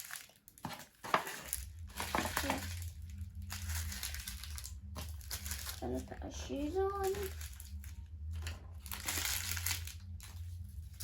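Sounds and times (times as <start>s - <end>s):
packaging wrappers being crumpled: 0.0s - 11.0s.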